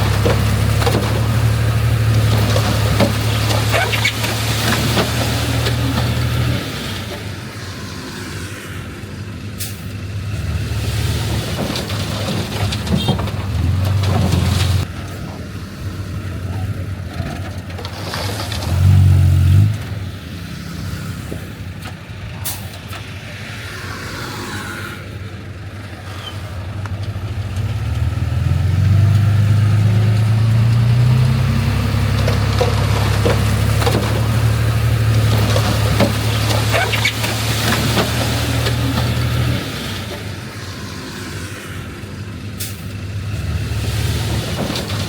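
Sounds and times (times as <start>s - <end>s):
heavy diesel engines working: 0.0s - 45.0s.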